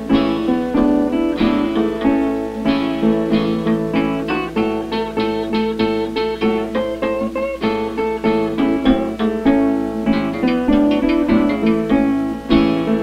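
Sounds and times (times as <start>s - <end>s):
acoustic guitars picking blues: 0.0s - 13.0s.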